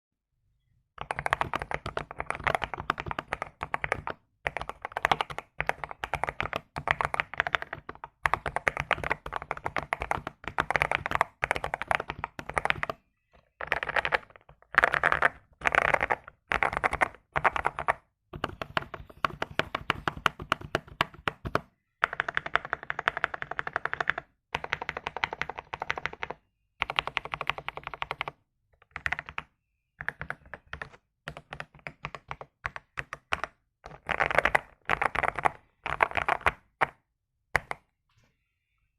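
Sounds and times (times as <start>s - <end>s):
typing on mechanical keyboard: 1.0s - 13.0s, 13.6s - 37.0s.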